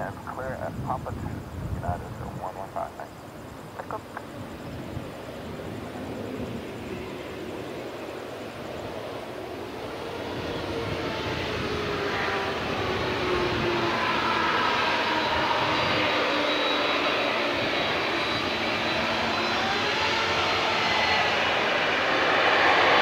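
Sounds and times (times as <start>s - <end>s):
jet engines running: 0.0s - 23.0s
faint engine whine sliding in pitch: 4.0s - 23.0s.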